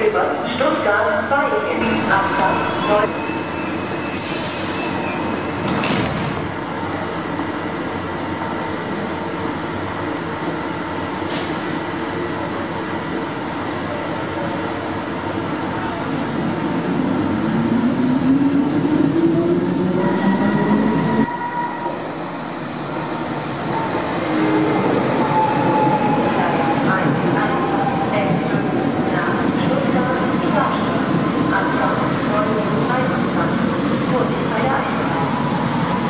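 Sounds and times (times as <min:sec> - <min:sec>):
train arriving along platform: 0:00.0 - 0:36.0.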